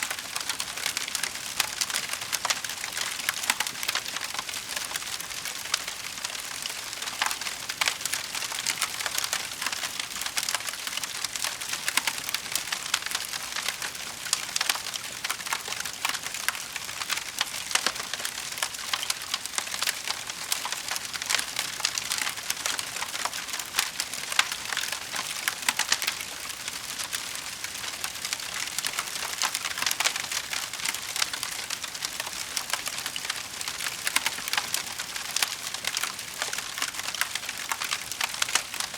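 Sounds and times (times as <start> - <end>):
wood fire crackling and popping: 0.1 - 38.9.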